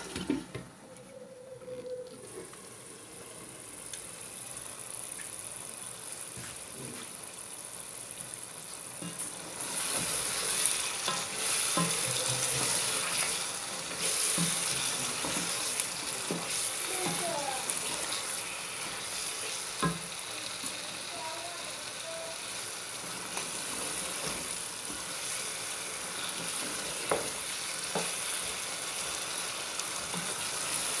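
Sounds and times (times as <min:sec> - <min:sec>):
curry sizzling: 0:02.2 - 0:31.0.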